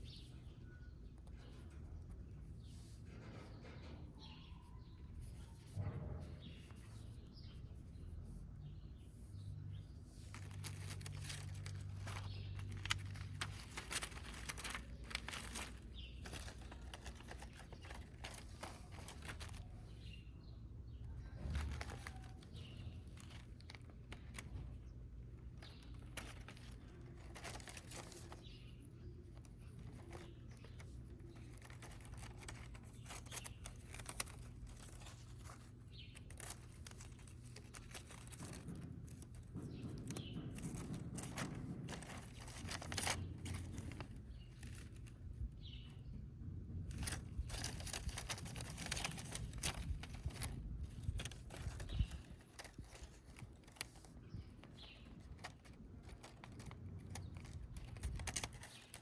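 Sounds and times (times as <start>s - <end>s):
crinkling and rustling: 0.0s - 59.0s.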